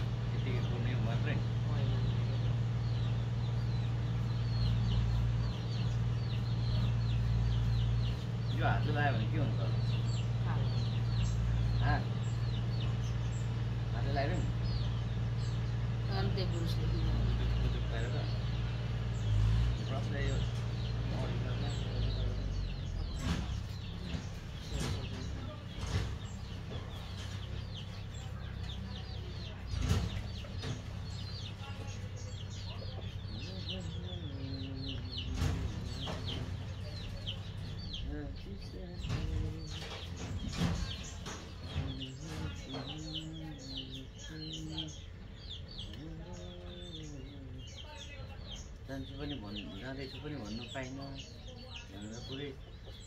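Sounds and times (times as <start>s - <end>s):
birds chirping: 0.0s - 53.0s
chickens clucking: 0.0s - 53.0s
steady low hum: 0.0s - 53.0s.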